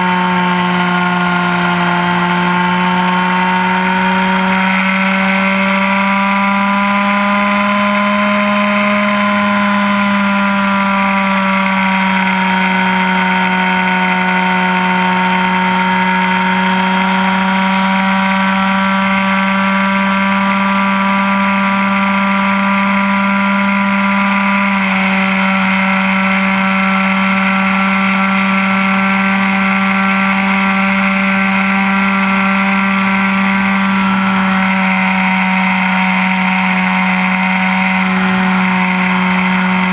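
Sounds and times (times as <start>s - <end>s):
model plane engine buzzing: 0.0s - 39.9s.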